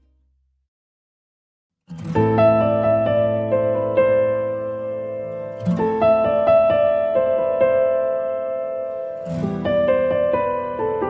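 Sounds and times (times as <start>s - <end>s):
slow soft piano music: 2.0s - 11.0s.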